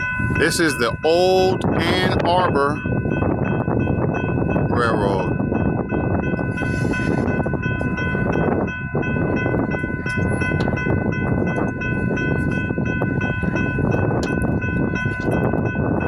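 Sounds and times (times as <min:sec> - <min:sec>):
railroad crossing bell ringing: 0:00.0 - 0:16.0
train rumble: 0:00.0 - 0:16.0.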